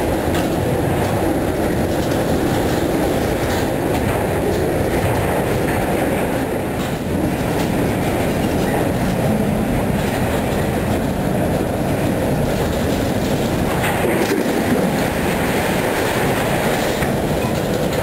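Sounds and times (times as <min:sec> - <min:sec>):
train wheels clicking: 0:00.0 - 0:18.0
train wheels rumbling on rail: 0:00.0 - 0:18.0.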